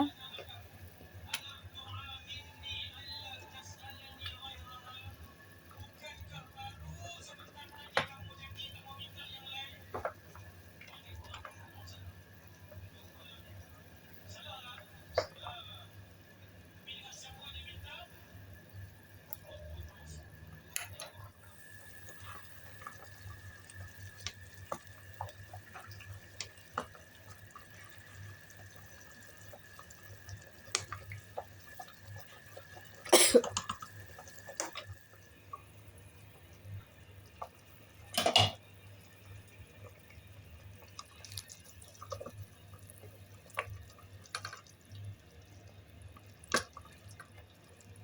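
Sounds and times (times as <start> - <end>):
soup simmering with bubbling pops: 2.6 - 48.0.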